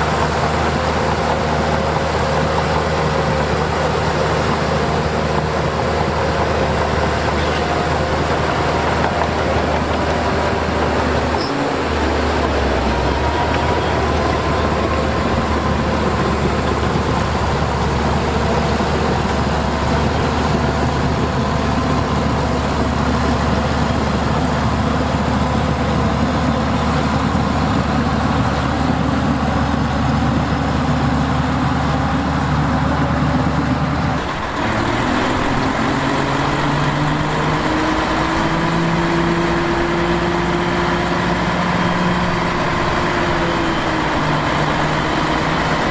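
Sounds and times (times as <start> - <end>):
heavy diesel engine under load: 0.0 - 45.9.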